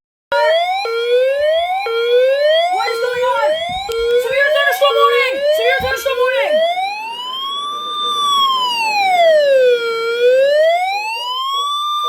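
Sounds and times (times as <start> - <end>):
electronic wailing siren: 0.3 - 12.0.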